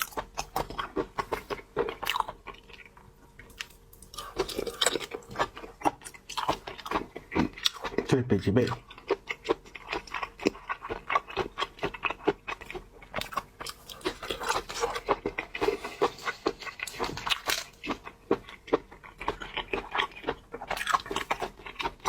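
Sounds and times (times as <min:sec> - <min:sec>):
person chewing seafood: 0:00.0 - 0:22.0.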